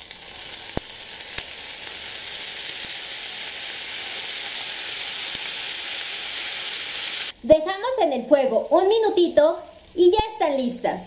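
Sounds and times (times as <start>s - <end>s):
potatoes sizzling in a pan: 0.0s - 11.0s.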